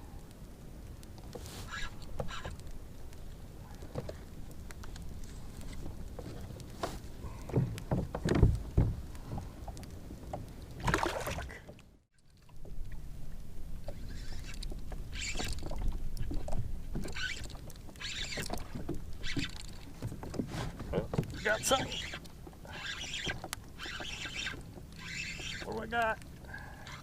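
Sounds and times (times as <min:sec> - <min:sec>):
water splashing against hull: 0:01.0 - 0:27.0.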